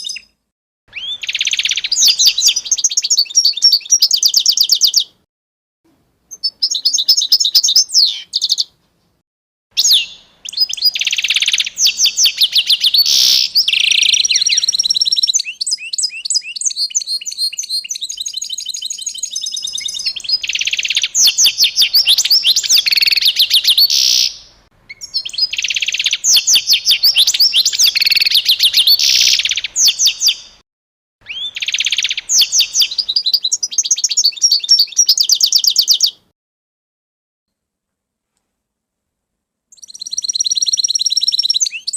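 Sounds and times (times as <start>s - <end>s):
songbird singing trills: 0.0s - 5.2s, 6.3s - 8.8s, 9.8s - 30.6s, 31.2s - 36.2s, 39.7s - 41.9s.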